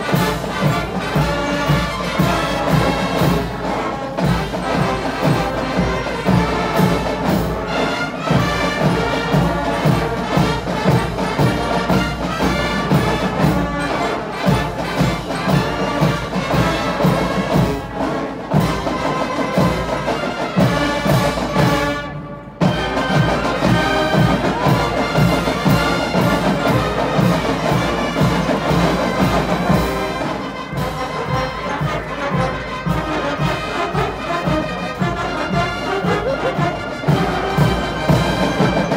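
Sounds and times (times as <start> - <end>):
drums striking a steady beat: 0.0 - 38.9
marching band brass: 0.0 - 38.9.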